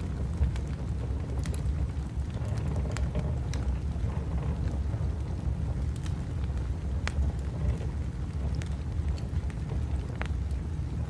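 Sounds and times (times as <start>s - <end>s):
low wind rumble: 0.0s - 11.0s
wood fire crackling: 0.0s - 11.0s.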